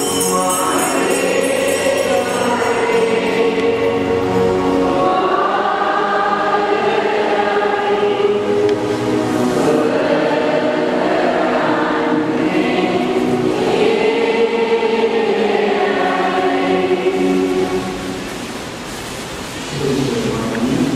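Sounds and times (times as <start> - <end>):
congregation singing a hymn: 0.0 - 18.7.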